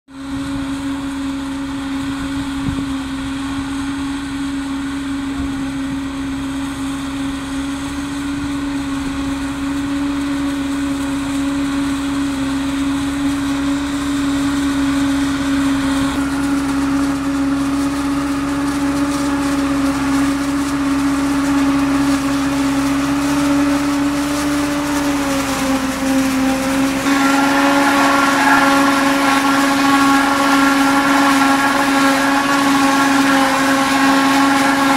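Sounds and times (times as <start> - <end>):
forage harvester machine hum: 0.1 - 34.9.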